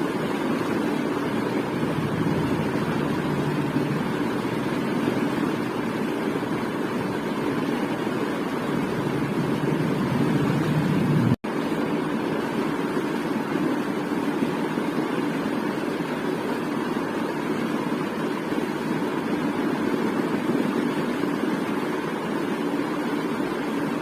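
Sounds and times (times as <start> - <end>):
ceiling fan whirring: 0.0 - 24.0.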